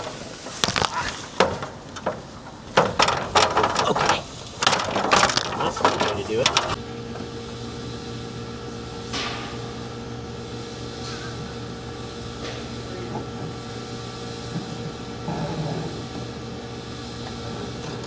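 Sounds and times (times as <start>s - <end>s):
mechanical hum with fixed tones: 0.0s - 18.0s.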